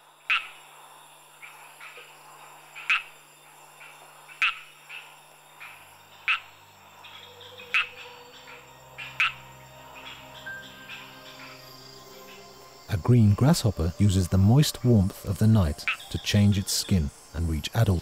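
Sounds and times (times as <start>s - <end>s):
frog calling: 0.2s - 18.0s.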